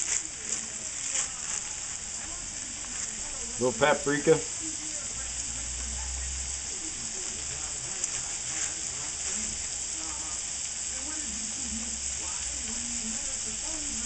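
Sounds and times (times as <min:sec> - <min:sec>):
food frying in a skillet: 0:00.0 - 0:14.0.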